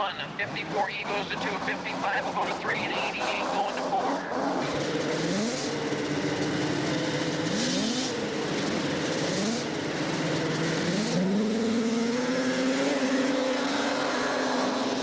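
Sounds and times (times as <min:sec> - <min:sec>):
snowmobile engines revving: 0:00.0 - 0:15.0
snowmobile accelerating away: 0:00.6 - 0:15.0.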